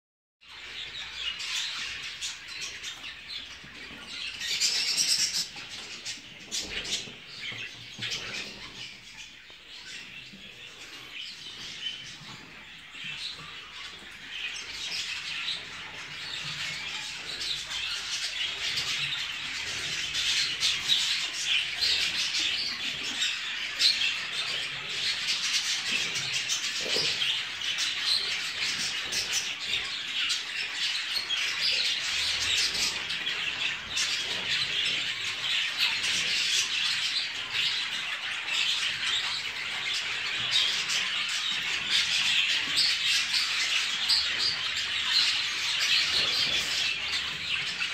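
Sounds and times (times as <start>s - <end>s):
budgerigars chattering: 0.5s - 47.9s.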